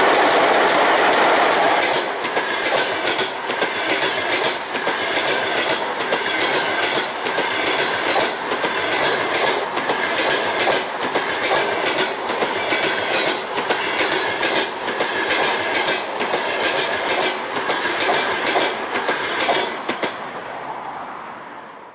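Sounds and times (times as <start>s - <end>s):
wheels clattering over rail joints: 0.0s - 20.2s
train passing rumble: 0.0s - 21.9s.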